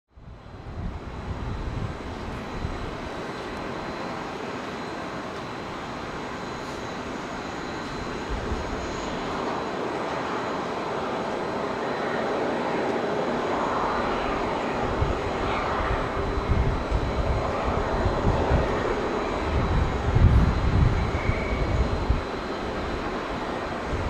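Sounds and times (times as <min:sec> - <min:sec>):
distant jet engine roar: 0:00.2 - 0:24.0.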